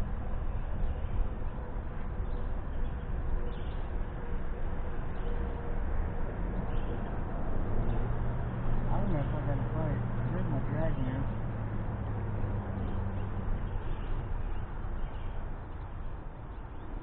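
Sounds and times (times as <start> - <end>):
outdoor rumble and hiss by creek: 0.0 - 17.0.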